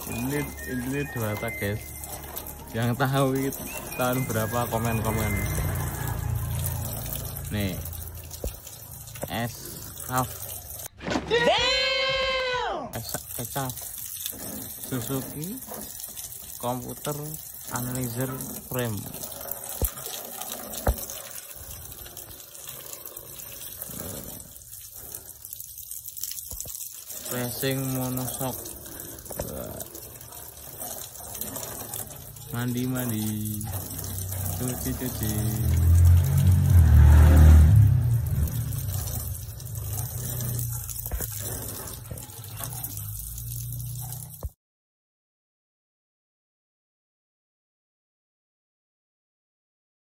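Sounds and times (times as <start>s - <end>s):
water splashing on bodywork: 0.0s - 11.2s, 13.0s - 44.6s.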